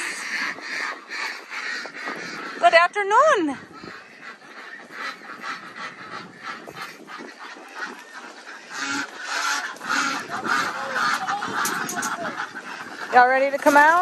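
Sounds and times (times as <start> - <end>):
chickens clucking: 0.0 - 14.0
ducks quacking: 0.0 - 14.0.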